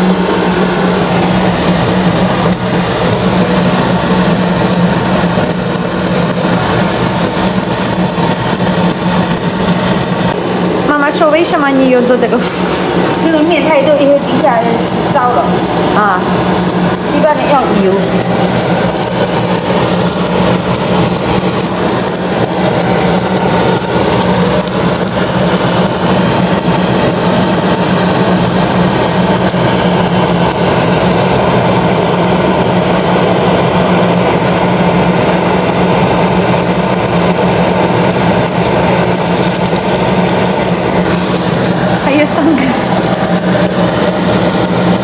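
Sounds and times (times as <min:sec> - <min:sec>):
buns sizzling in hot oil: 0:00.0 - 0:45.0
constant low hum: 0:00.0 - 0:45.0.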